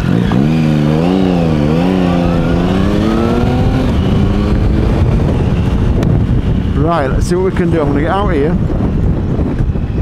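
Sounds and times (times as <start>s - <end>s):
low wind rumble: 0.0s - 10.0s
motorcycle engine accelerating: 0.0s - 10.0s.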